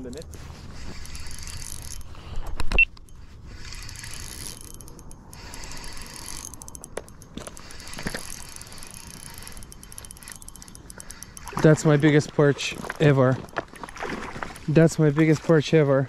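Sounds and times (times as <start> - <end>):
fishing reel clicking: 0.0 - 13.7.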